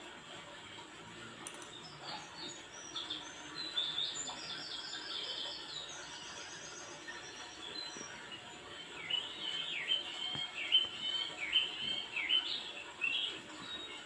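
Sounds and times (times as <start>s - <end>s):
small bird chirping: 1.5s - 14.0s.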